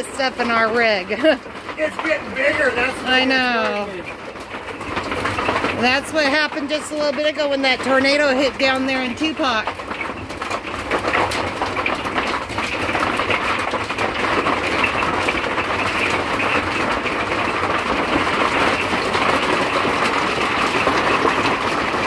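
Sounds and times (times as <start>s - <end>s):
hail hitting a roof: 0.0s - 22.0s.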